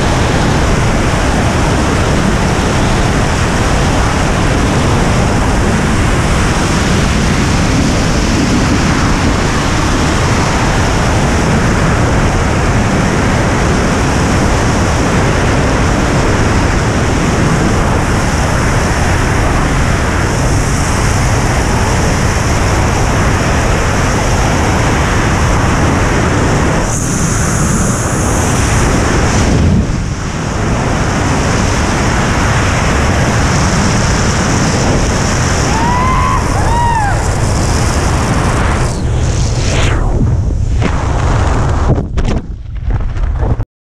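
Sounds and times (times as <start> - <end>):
air rushing over microphone: 0.0 - 43.6.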